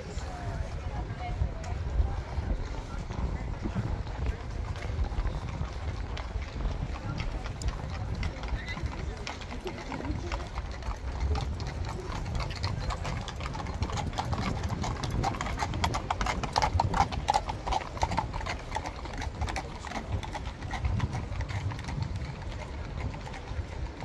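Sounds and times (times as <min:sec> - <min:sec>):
horse hooves clip-clopping: 0:00.0 - 0:24.0.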